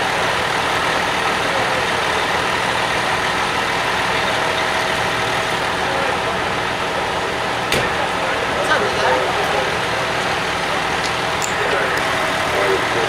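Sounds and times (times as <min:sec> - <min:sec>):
emergency vehicle engines idling: 0:00.0 - 0:13.0.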